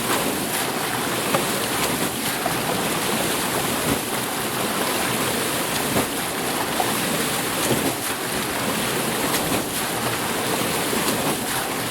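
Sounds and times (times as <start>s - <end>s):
small sharp water splashes: 0.0s - 11.9s
water rushing off water wheel: 0.0s - 11.9s.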